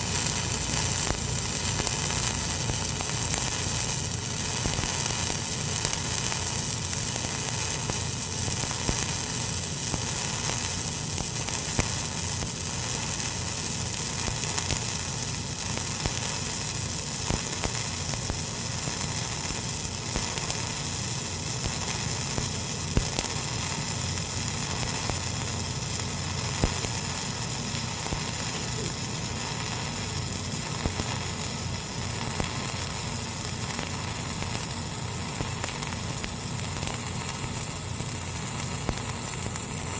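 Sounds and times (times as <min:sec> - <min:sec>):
welding arc crackling sizzle: 0:00.0 - 0:39.9.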